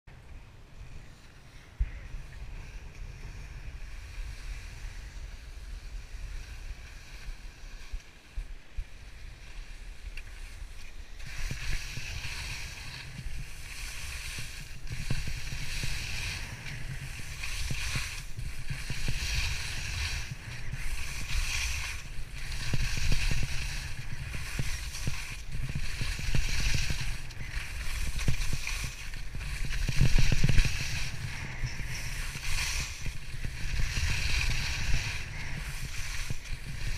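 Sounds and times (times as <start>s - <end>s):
wind rumbling on microphone: 0.1s - 36.9s
skis sliding over snow: 0.7s - 36.9s.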